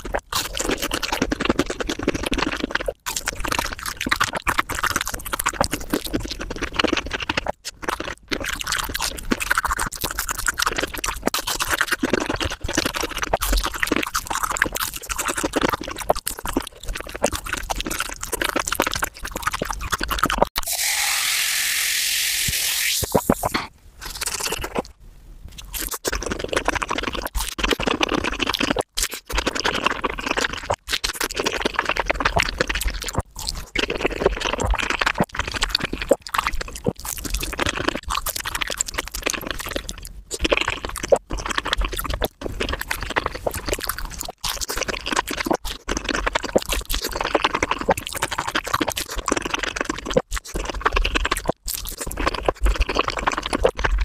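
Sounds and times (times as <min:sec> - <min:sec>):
fast chewing and crunching: 0:00.0 - 0:20.7, 0:23.2 - 0:54.0.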